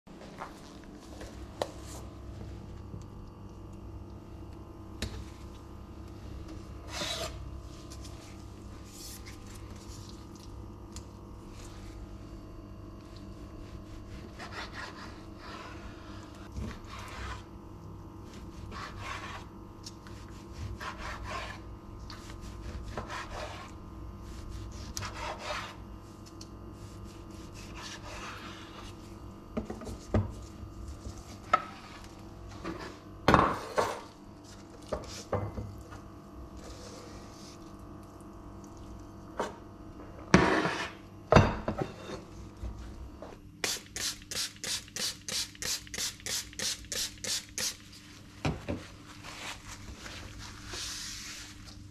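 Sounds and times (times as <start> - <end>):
steady low hum: 0.1 - 51.9.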